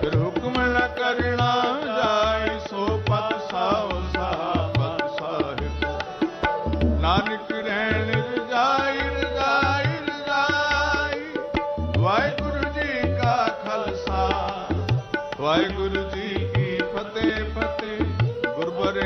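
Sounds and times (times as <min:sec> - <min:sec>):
harmonium: 0:00.0 - 0:19.0
tabla drumming: 0:00.0 - 0:19.0.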